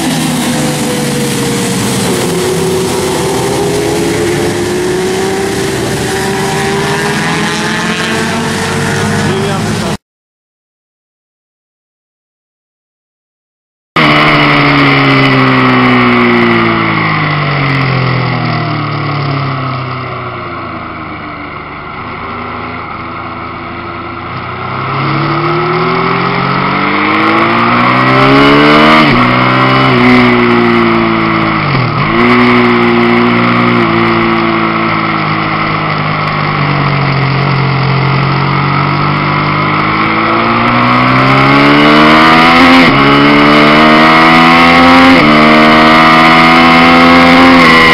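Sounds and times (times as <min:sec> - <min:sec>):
sport motorcycle engine revving: 0:00.0 - 0:10.0, 0:14.0 - 0:21.2, 0:21.8 - 0:47.9.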